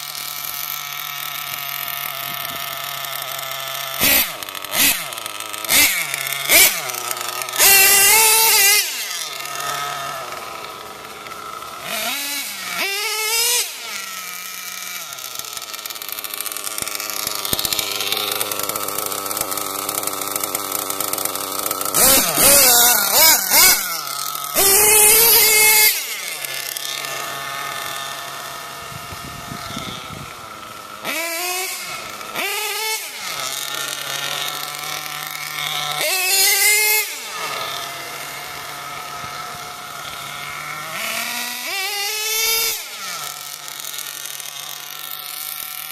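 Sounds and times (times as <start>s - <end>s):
rc truck engine revving: 0.0s - 45.9s.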